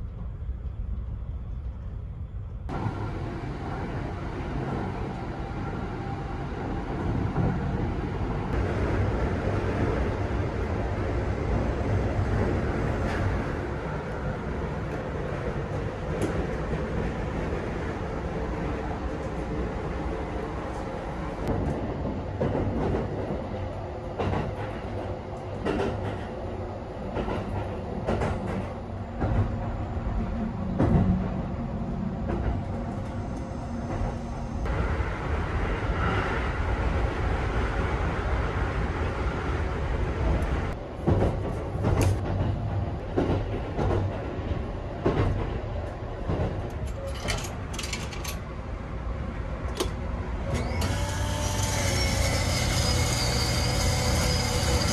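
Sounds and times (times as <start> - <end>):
train interior rumble: 0.0 - 54.9.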